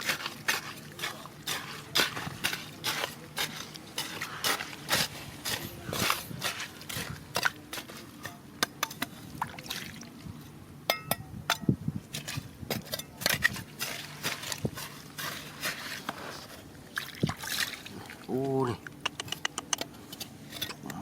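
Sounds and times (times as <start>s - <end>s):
water sloshing and trickling: 0.0s - 10.6s, 12.0s - 19.0s.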